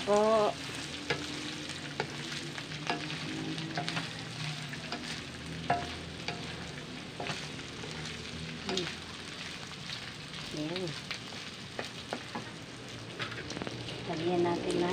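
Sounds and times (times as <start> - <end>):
meat sizzling in a wok: 0.0 - 14.9
wooden spatula scraping wok: 0.2 - 14.1.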